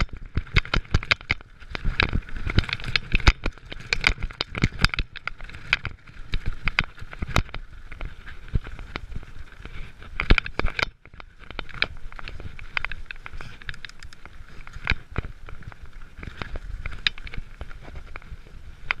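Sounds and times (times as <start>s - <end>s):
bike clicking and rattling: 0.0s - 19.0s.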